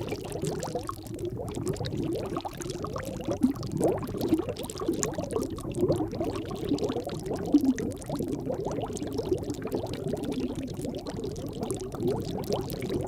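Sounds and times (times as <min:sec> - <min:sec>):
underwater bubbling: 0:00.0 - 0:13.0.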